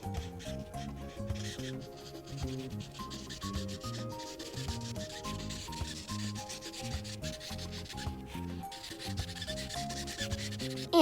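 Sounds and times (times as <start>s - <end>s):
marker scrubbing on paper: 0.0s - 11.0s
soft background melody: 0.0s - 11.0s.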